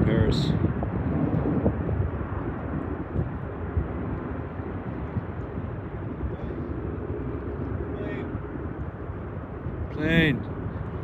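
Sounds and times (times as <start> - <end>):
distant jet engines rumbling: 0.0 - 11.0.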